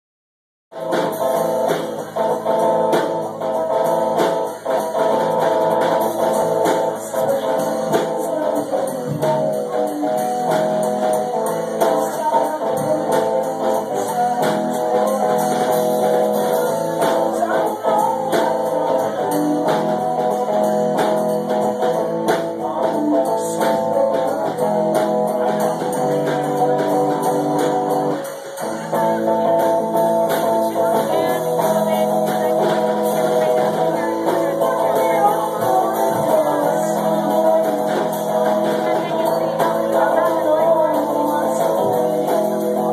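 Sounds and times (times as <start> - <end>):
drum kit: 0.7 - 42.9
electric guitar: 0.7 - 42.9
person singing: 0.8 - 42.9.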